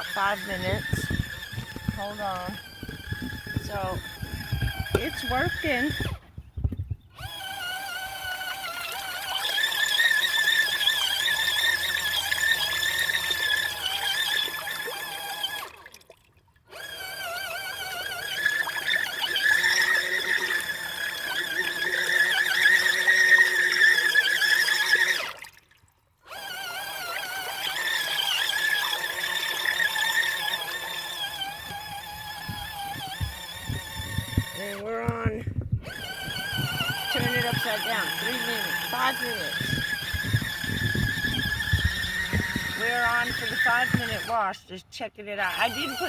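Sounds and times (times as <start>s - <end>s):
washing machine motor whine: 0.0s - 15.9s, 16.7s - 25.4s, 26.3s - 46.0s.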